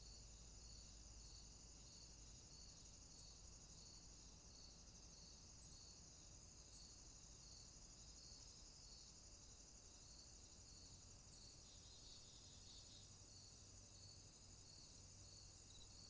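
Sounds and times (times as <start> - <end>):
insect trill: 0.0 - 16.0
repeating insect chirp: 0.3 - 16.0.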